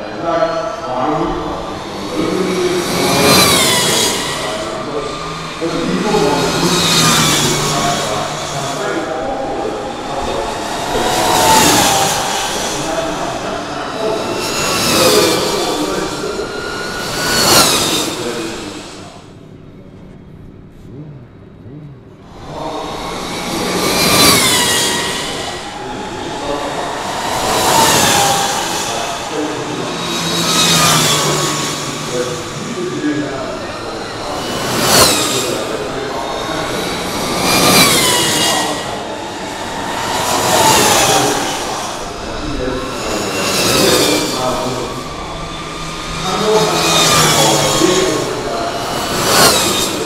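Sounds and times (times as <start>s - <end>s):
electric motorcycles whining past: 0.0s - 19.6s, 21.0s - 50.0s.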